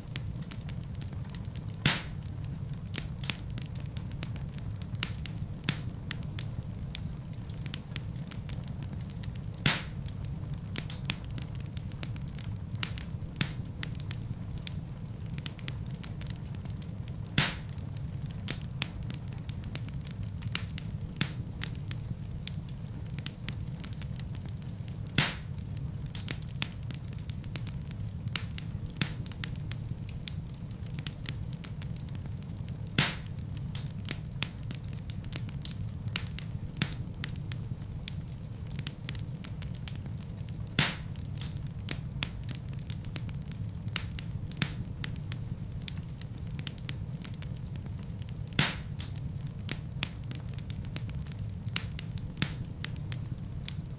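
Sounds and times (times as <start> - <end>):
fire crackling and rumbling: 0.0 - 53.9
loud fire pops: 0.0 - 53.9.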